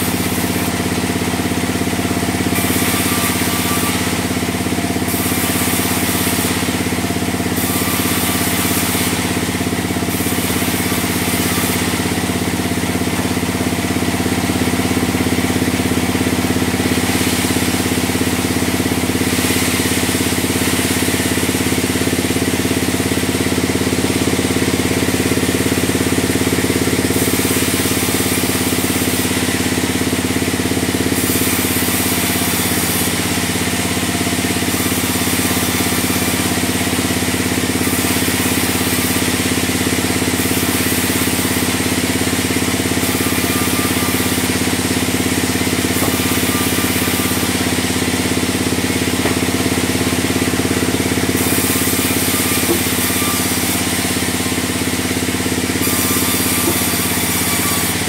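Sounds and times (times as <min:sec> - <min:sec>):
band saw machine hum: 0:00.0 - 0:58.0
saw blade hissing through timber: 0:00.0 - 0:58.0.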